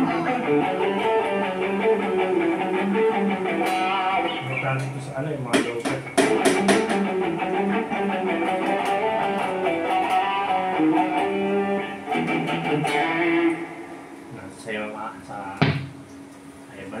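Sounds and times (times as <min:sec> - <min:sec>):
electric guitar melody: 0:00.0 - 0:05.1, 0:05.7 - 0:14.4.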